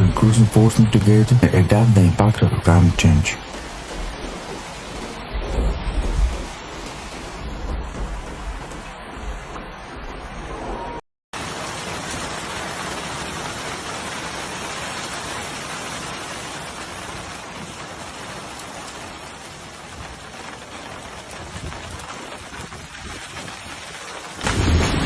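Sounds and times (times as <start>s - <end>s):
hail and heavy rain pelting: 0.0s - 10.6s, 11.4s - 25.0s.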